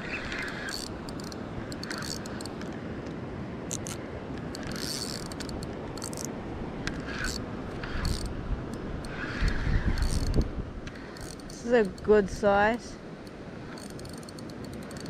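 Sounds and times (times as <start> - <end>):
fishing reel whirring: 0.0 - 2.7, 3.7 - 6.3, 6.9 - 12.2, 13.2 - 15.0.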